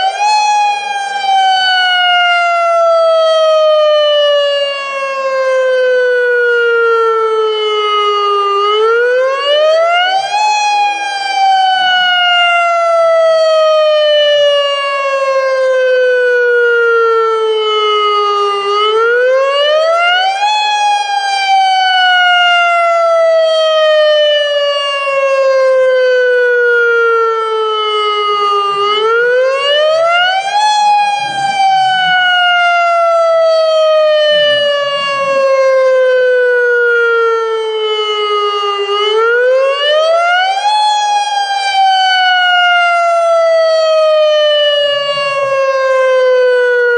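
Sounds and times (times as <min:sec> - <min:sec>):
electronic warning siren wailing: 0:00.0 - 0:46.9.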